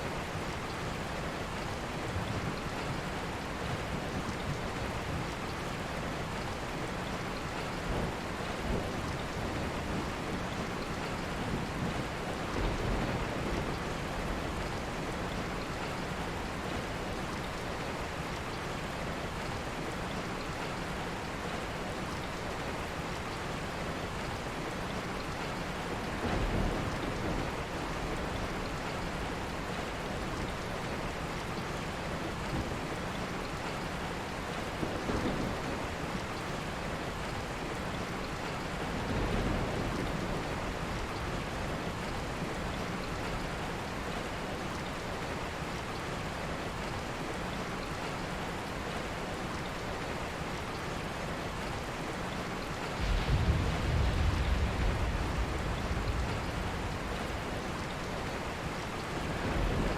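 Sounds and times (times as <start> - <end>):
dense rain falling: 0.0 - 59.9.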